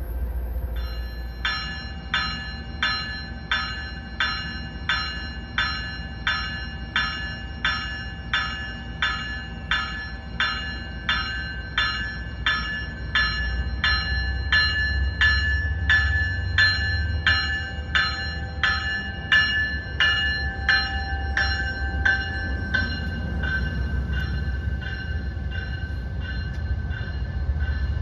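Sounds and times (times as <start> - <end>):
train bell ringing: 0.0 - 28.0.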